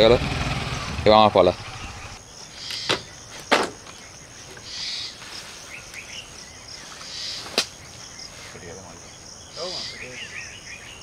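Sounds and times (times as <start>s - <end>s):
bird chirps: 1.6s - 11.0s
high insect buzz: 1.6s - 11.0s.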